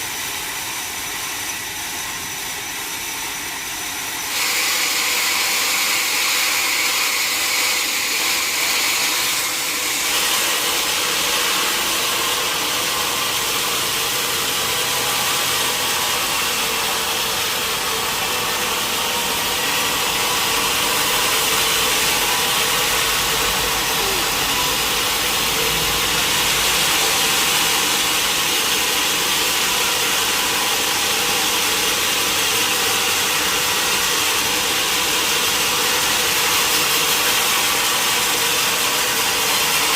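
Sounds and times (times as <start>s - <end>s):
sawmill machinery hum and hiss: 0.0s - 39.9s.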